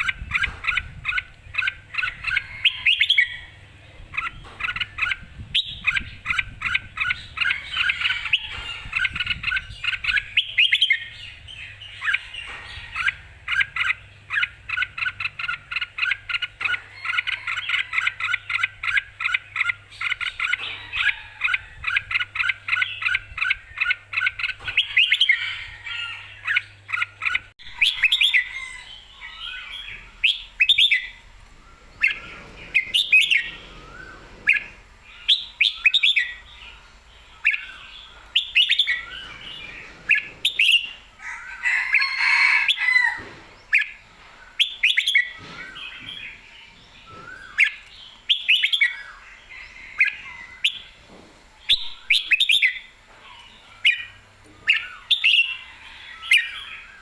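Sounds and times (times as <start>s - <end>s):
bird singing: 0.0s - 51.0s, 51.6s - 57.0s.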